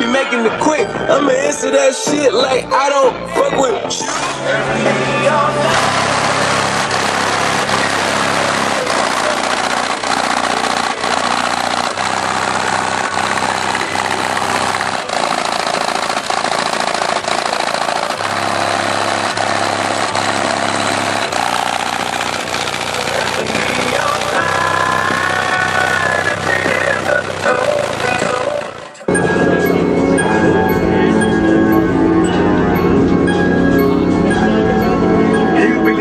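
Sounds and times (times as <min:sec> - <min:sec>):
bass-heavy music from car speakers: 0:00.0 - 0:36.0.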